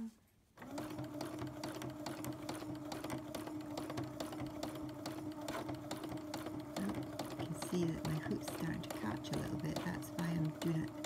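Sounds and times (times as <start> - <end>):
sewing machine running: 0.6 - 11.0.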